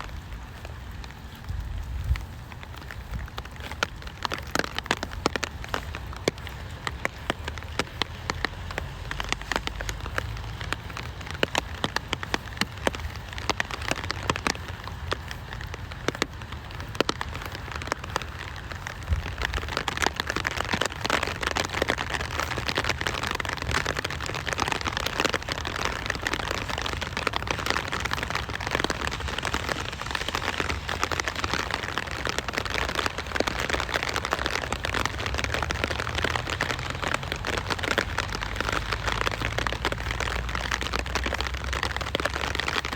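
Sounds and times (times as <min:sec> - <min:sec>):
rain drops pattering: 0:00.0 - 0:42.9.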